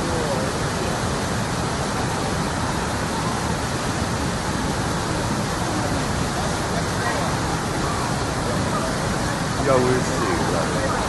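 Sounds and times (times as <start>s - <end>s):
faint voices: 0.0s - 11.0s
fast-flowing water rushing: 0.0s - 11.0s.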